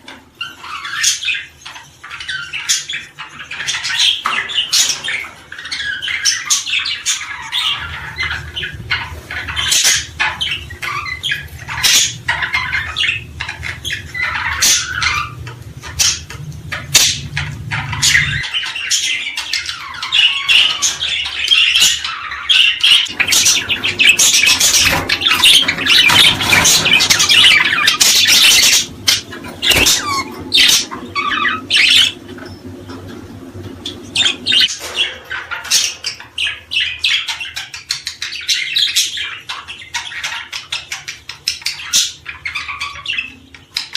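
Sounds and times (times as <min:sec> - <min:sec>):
cage birds chirping and squawking: 0:00.0 - 0:43.9.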